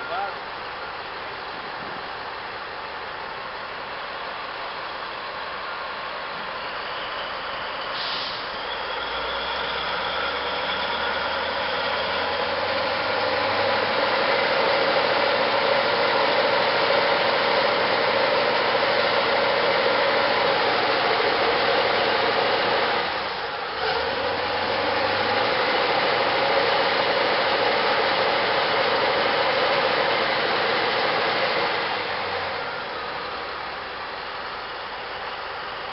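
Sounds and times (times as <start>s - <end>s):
diesel engine straining under load: 0.0s - 35.9s.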